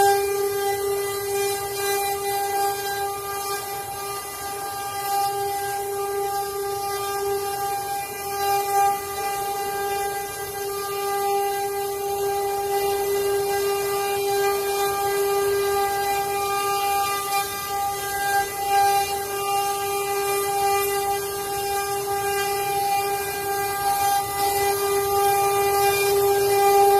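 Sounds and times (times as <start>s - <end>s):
router spindle high-pitched whine: 0.0s - 26.9s.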